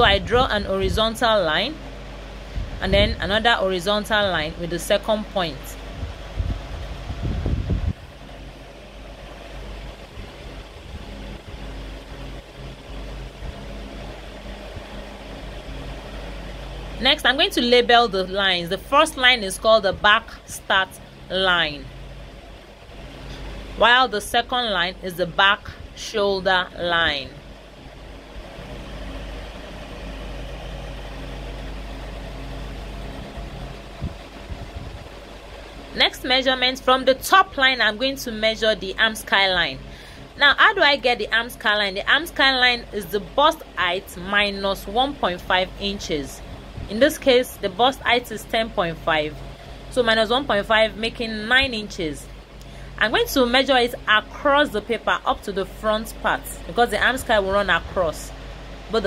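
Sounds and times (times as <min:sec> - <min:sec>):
machine humming: 0:00.0 - 0:59.0.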